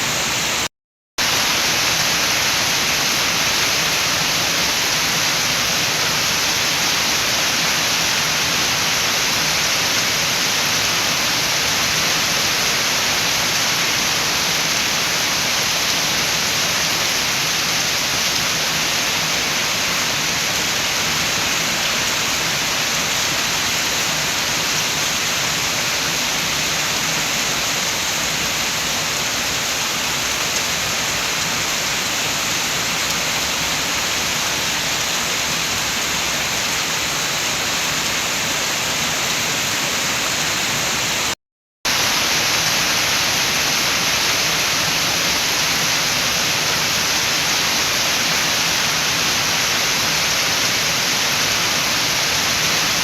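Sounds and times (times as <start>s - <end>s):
wind: 0.0s - 53.0s
rain falling: 0.1s - 53.0s.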